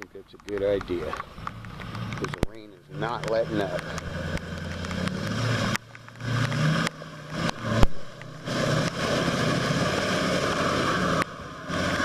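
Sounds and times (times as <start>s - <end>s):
pickup truck engine driving past: 1.2s - 12.0s.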